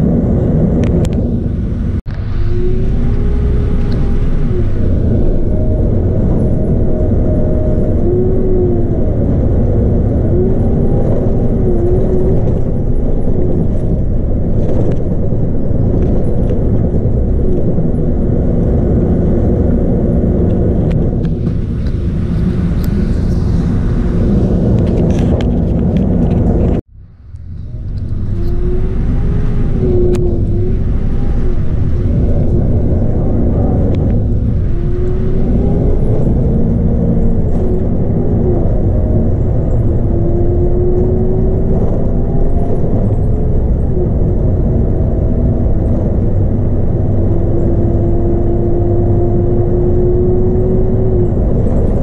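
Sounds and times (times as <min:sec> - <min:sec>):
bus diesel engine running: 0:00.0 - 0:52.0
transmission whine: 0:00.0 - 0:52.0.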